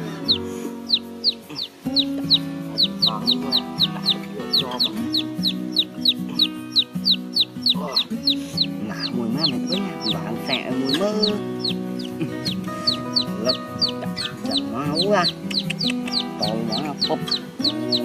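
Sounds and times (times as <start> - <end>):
background music: 0.0 - 18.0
chick peeping: 0.0 - 18.0.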